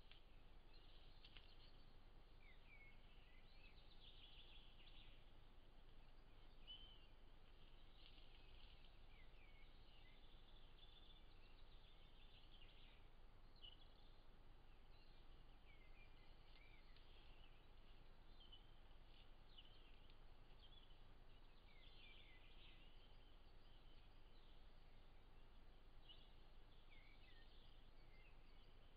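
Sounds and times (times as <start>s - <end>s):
low hum and hiss: 0.0s - 28.9s
songbirds chirping: 0.0s - 28.9s.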